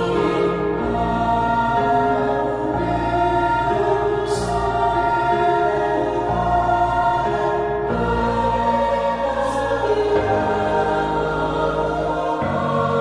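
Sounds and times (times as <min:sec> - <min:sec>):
music with choir-like voices: 0:00.0 - 0:13.0.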